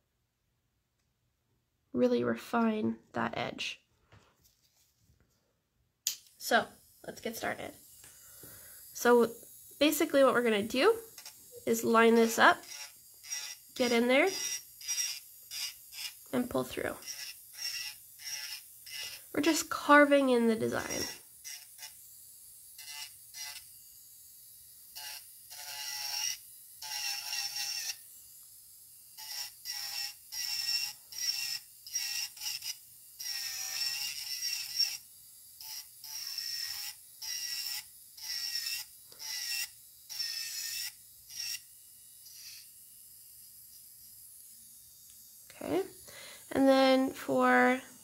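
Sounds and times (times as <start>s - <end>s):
electric nail file grinding whine: 6.1s - 48.0s.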